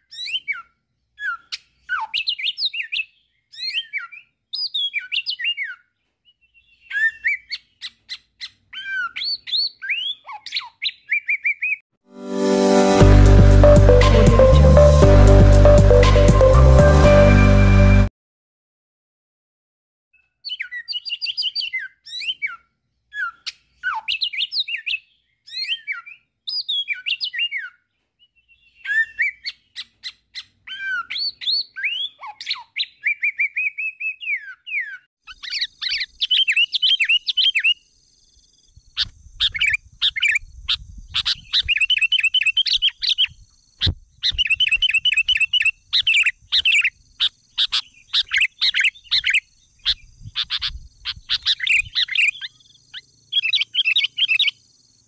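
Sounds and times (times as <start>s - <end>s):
songbirds chirping and whistling: 0.0s - 11.8s, 20.2s - 55.0s.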